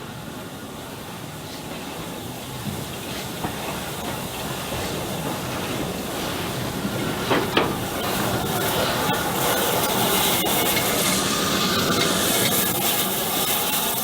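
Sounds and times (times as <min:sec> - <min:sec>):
hiss: 0:00.0 - 0:14.0
train approaching: 0:00.0 - 0:14.0.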